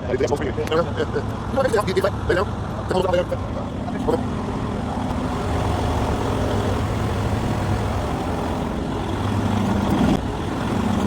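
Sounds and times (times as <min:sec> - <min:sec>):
diesel truck engine idling: 0:00.4 - 0:11.0.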